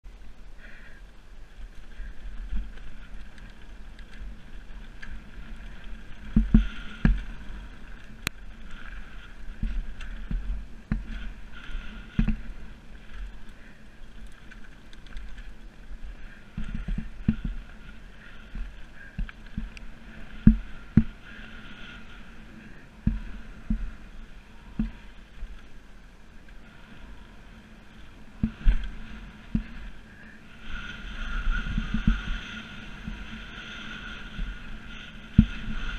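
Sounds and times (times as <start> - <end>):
bike rolling and rattling: 0.1 - 35.9.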